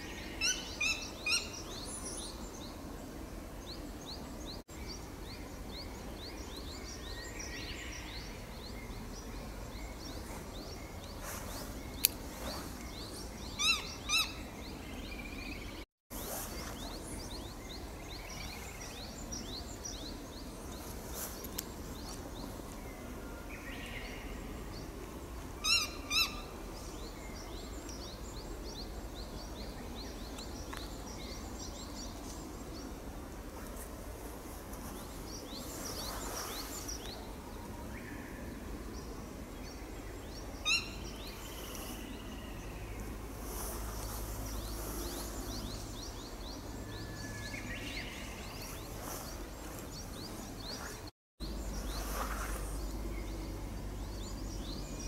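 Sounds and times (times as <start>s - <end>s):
small birds chirping faintly: 0.0s - 55.0s.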